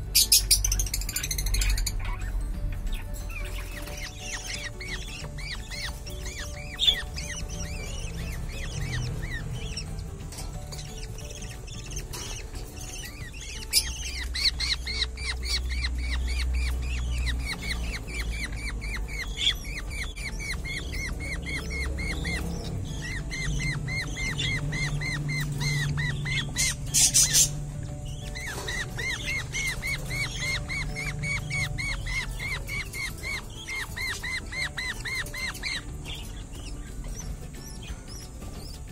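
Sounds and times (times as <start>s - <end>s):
young budgerigars chirping: 0.0s - 38.9s.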